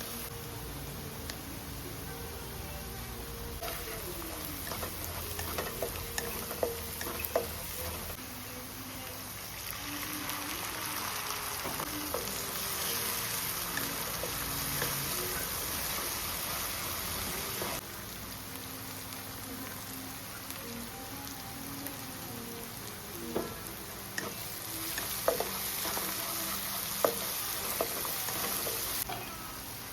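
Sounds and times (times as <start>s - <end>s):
food sizzling in hot oil: 3.5s - 29.9s.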